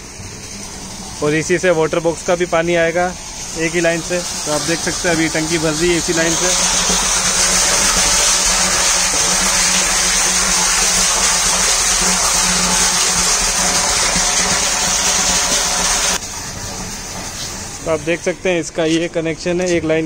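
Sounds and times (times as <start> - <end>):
water pouring into tank: 0.0 - 18.6.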